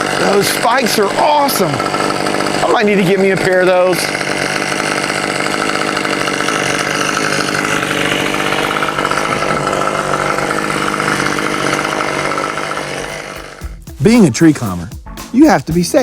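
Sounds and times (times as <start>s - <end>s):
chainsaw engine idling: 0.0s - 14.8s.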